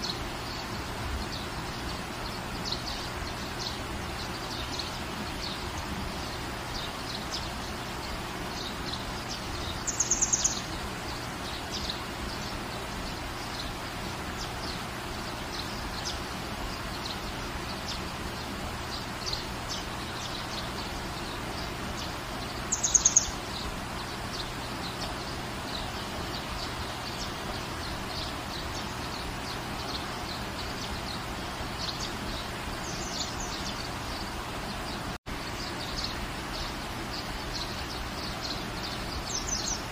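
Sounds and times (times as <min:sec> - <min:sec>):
birds chirping: 0:00.0 - 0:39.9
steady rain falling: 0:00.0 - 0:39.9.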